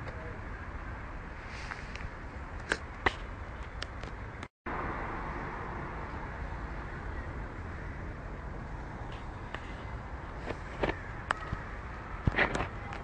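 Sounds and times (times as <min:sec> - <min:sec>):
city background noise: 0:00.0 - 0:13.0.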